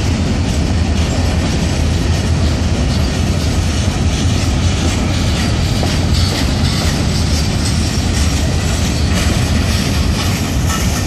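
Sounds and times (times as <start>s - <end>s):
freight train wheels on rails: 0.0s - 11.0s.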